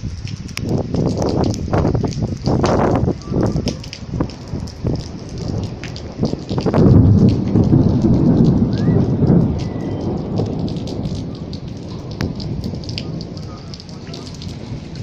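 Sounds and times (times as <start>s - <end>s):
heavy rain falling: 0.0s - 15.0s
rain drops ticking: 0.0s - 15.0s
thunder rumble: 0.0s - 15.0s.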